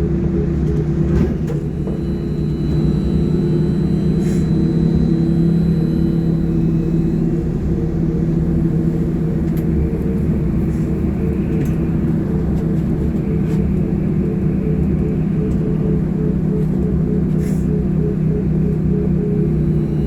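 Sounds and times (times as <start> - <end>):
electric traction drive hum: 0.0 - 20.0
road rumble: 0.0 - 20.0.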